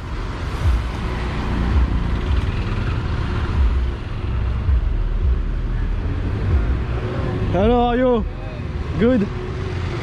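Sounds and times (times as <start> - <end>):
auto-rickshaw engine running: 0.0 - 10.0.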